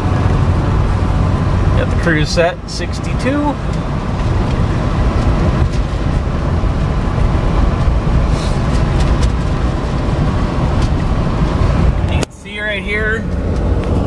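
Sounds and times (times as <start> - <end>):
tyre and engine drone: 0.0 - 14.0.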